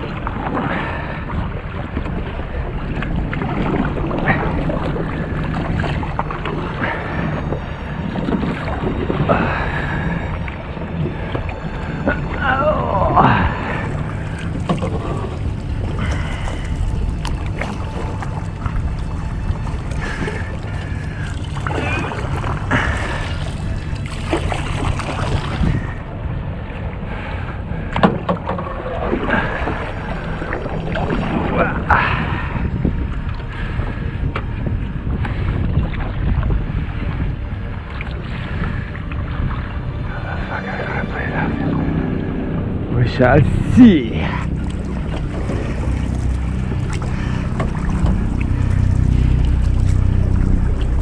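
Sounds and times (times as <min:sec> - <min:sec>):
motorboat engine drone: 0:00.0 - 0:51.0
water rushing: 0:00.0 - 0:51.0
wind buffeting microphone: 0:00.0 - 0:51.0.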